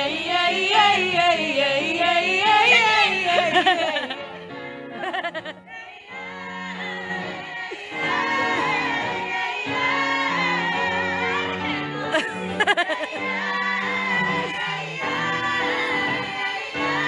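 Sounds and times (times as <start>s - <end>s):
voices singing in harmony: 0.0s - 4.3s, 5.0s - 17.0s.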